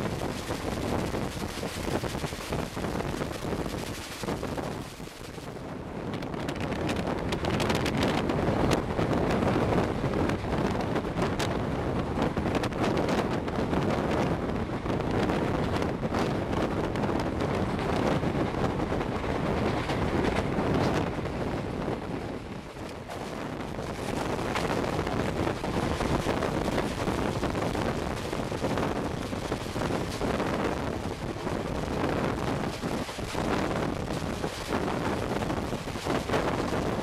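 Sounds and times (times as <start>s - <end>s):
train wheels rumbling on rails: 0.0s - 37.0s
wind rush on microphone: 0.0s - 37.0s.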